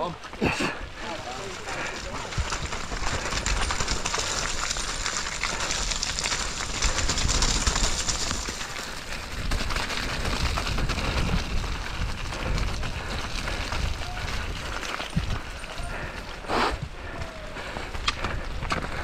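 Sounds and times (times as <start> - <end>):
tyres running through mud: 0.0 - 19.0
bike rattling: 0.4 - 19.0
wind rumbling on microphone: 0.8 - 19.0.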